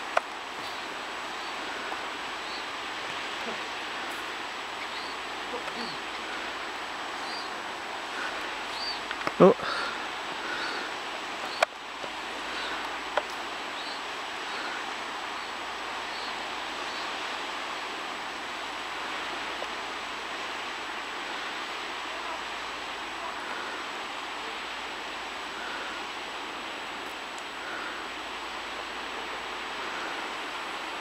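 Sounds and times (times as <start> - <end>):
surf on a sandy beach: 0.0 - 31.0.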